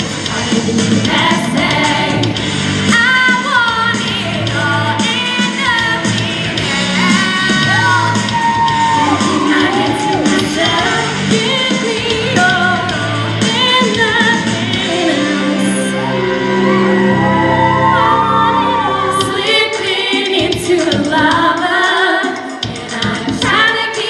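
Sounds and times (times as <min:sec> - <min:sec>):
women singing a pop song: 0:00.0 - 0:16.3, 0:18.2 - 0:24.0.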